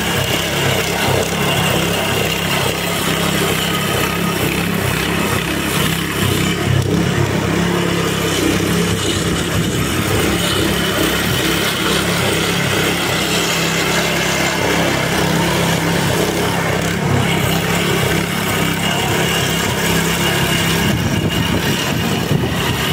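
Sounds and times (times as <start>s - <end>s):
blades cutting through thatch: 0.0s - 22.9s
small petrol engine running: 0.0s - 22.9s.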